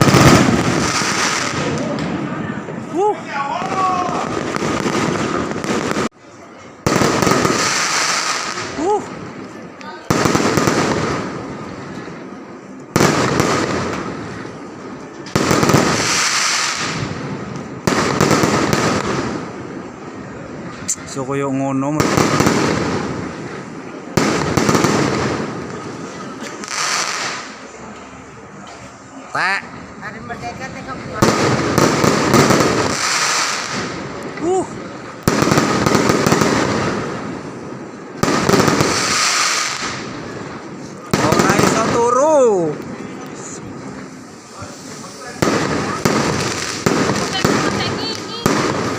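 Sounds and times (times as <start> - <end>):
fireworks bangs: 0.0 - 21.1, 21.9 - 27.8, 30.9 - 48.9.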